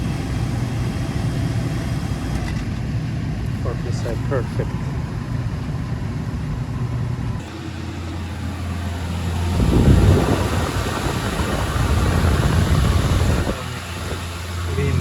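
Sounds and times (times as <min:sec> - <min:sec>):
condensing unit humming: 0:00.0 - 0:15.0
rough mechanical noise: 0:00.0 - 0:15.0.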